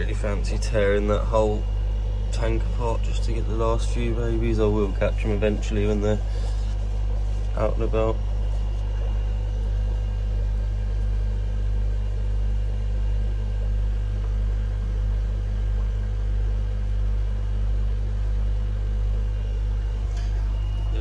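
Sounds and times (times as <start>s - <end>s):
low hum of aquarium equipment: 0.0s - 21.0s.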